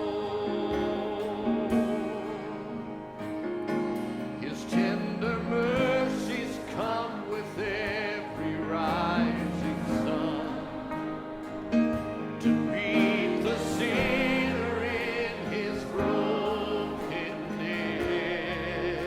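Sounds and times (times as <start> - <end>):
gospel instrumental backing: 0.0 - 19.0.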